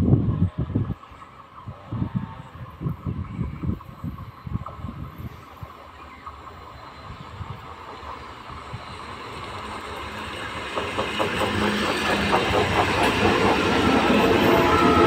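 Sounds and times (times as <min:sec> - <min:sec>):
train passing by rumbling: 0:00.0 - 0:15.0.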